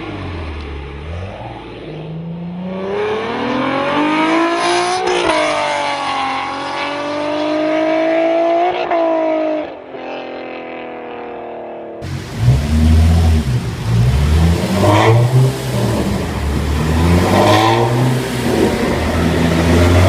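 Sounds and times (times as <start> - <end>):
car engine accelerating hard: 0.0 - 9.6, 12.0 - 20.0.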